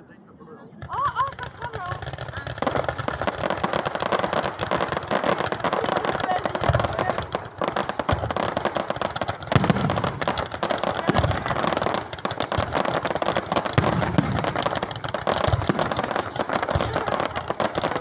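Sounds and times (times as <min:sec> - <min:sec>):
fireworks crackling: 0:00.0 - 0:18.0
deep firework booms: 0:00.8 - 0:18.0.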